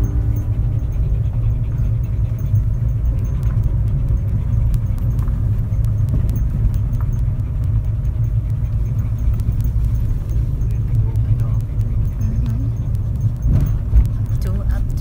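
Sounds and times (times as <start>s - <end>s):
car engine and tyres rumbling: 0.0s - 15.0s
faint gravel ticks: 2.4s - 15.0s.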